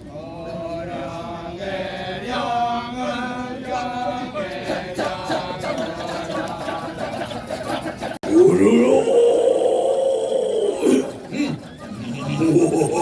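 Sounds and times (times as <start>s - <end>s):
men chanting: 0.1s - 11.6s.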